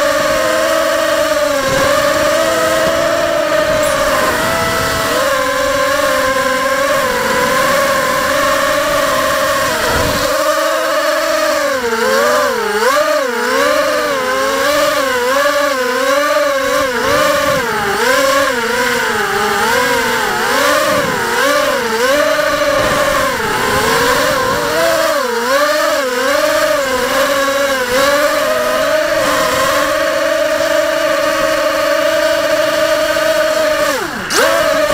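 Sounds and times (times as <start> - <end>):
drone propellers whining: 0.0 - 34.9.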